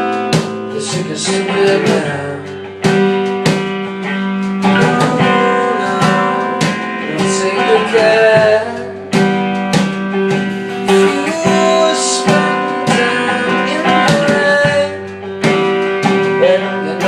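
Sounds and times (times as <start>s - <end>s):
person singing: 0.0s - 2.8s, 4.6s - 9.3s, 10.5s - 17.0s
acoustic guitar strumming: 0.0s - 17.0s.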